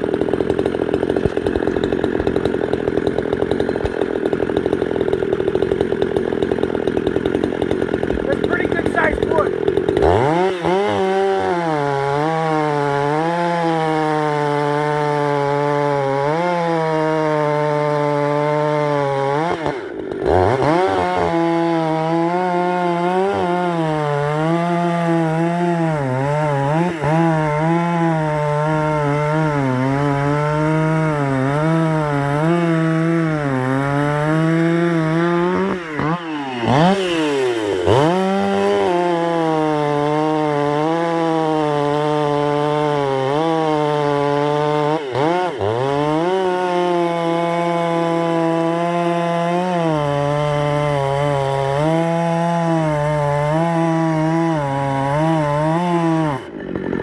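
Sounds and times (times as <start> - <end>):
chainsaw cutting through log: 0.0 - 57.0.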